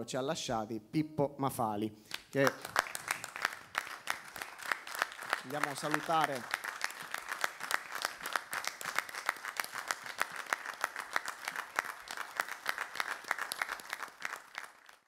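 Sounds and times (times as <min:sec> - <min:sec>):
people applauding: 0:02.1 - 0:15.0.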